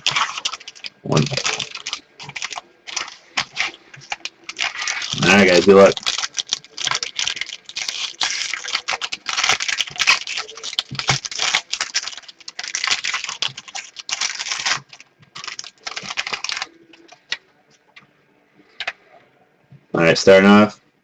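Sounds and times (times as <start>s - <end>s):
wrapper rustling: 0.0s - 17.4s.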